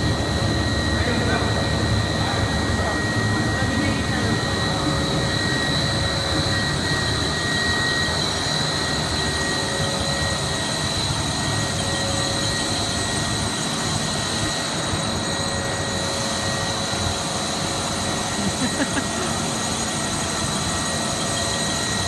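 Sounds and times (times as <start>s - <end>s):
high steady machine whine: 0.0s - 22.0s
machine drone: 0.0s - 22.0s.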